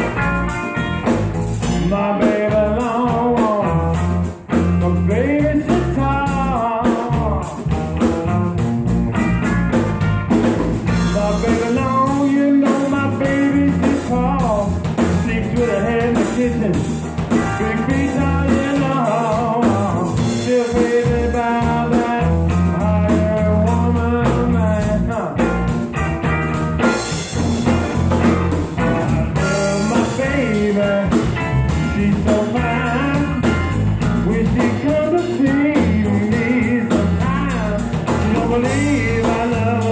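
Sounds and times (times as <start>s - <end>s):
drum kit: 0.0s - 39.9s
electric bass: 0.0s - 39.9s
electric guitar: 0.0s - 39.9s
man singing: 1.6s - 8.6s, 10.9s - 25.7s, 28.6s - 39.9s.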